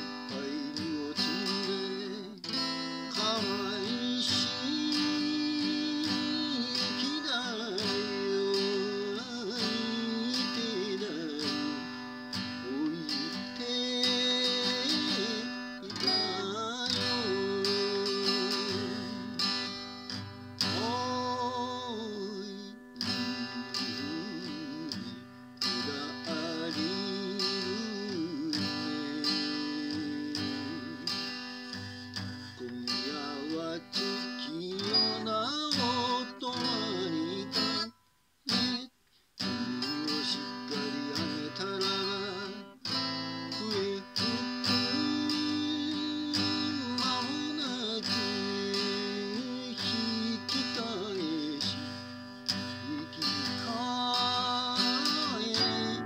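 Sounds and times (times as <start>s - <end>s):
man singing: 0.0s - 56.0s
strummed acoustic guitar: 0.0s - 56.0s.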